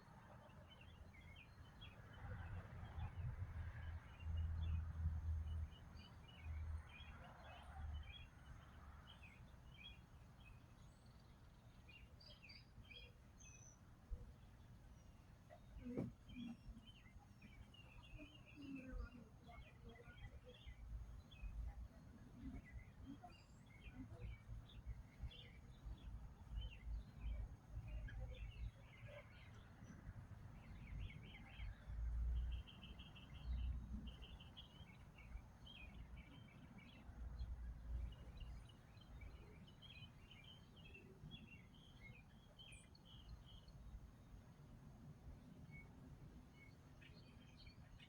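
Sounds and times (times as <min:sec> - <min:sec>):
songbirds chirping: 0:00.0 - 0:48.0.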